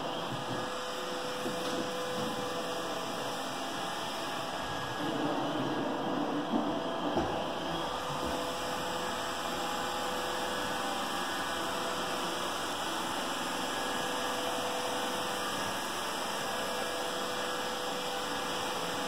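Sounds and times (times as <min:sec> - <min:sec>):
robot vacuum humming: 0:00.0 - 0:19.0.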